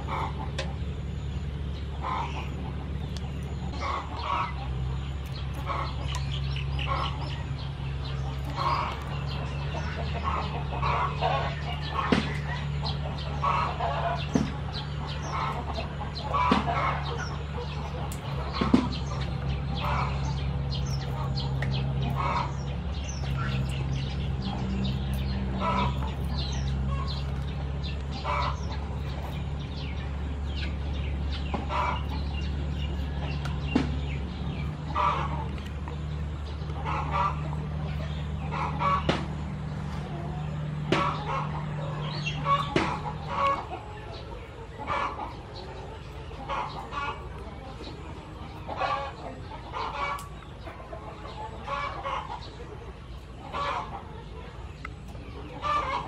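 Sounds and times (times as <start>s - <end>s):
chickens clucking: 0.0s - 56.0s
steady low hum: 0.0s - 56.0s.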